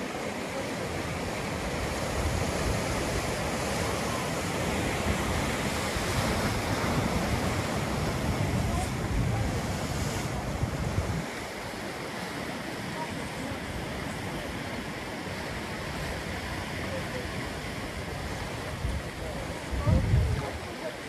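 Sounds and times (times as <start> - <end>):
ocean surf breaking on rocks: 0.0 - 21.0.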